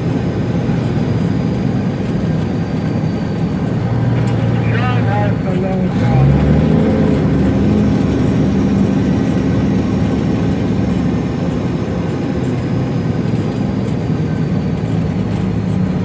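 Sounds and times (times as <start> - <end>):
diesel truck engine running: 0.0 - 16.0
road noise: 0.0 - 16.0.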